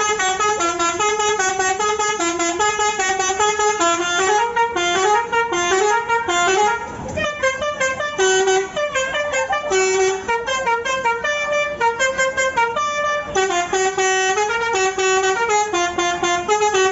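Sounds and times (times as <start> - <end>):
multi-tone air horn playing tune: 0.0 - 16.9.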